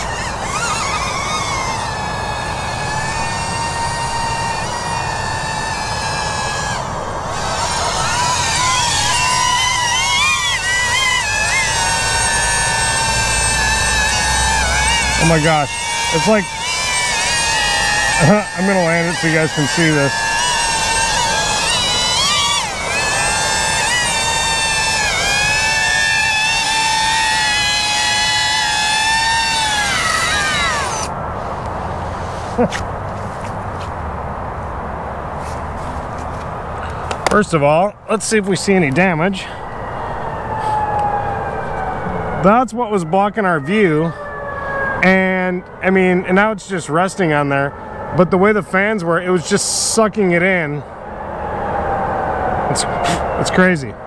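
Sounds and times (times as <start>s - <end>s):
drone propellers whining: 0.0s - 34.9s, 38.1s - 54.0s.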